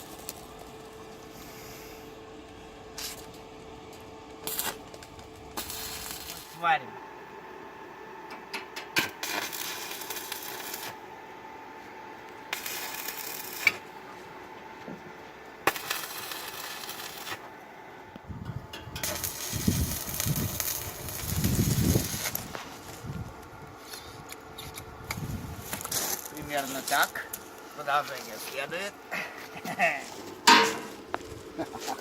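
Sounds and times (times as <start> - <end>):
arc welding crackling and sizzling: 0.0 - 32.0.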